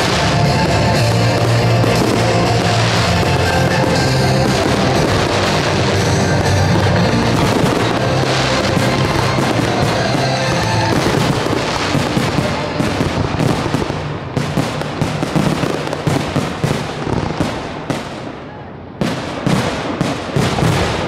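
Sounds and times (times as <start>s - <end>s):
fireworks bangs and crackle: 0.0s - 21.0s.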